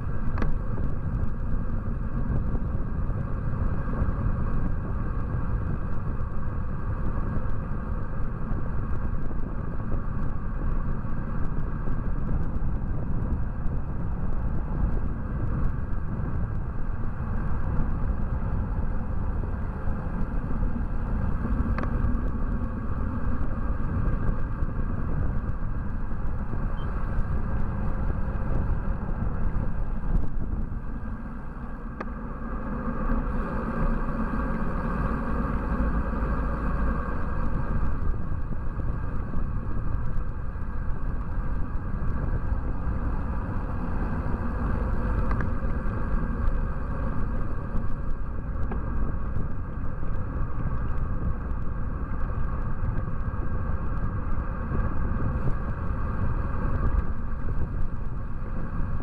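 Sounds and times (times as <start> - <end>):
bicycle tyre road noise: 0.0 - 59.0
wind buffeting microphone: 0.0 - 59.0.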